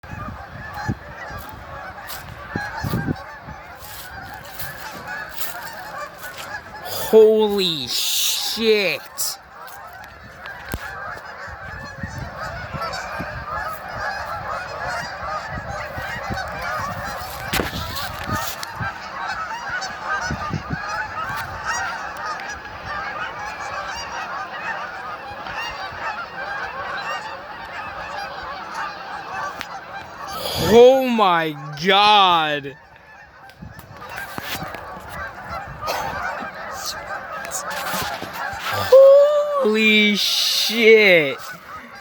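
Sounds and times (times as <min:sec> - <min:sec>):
flock of geese honking: 0:00.0 - 0:30.7, 0:32.7 - 0:39.2, 0:39.9 - 0:42.0.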